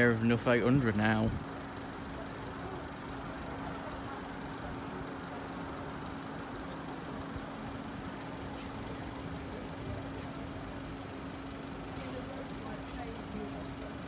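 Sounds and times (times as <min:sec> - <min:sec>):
constant hum: 0:00.0 - 0:14.0
road traffic: 0:00.0 - 0:14.0.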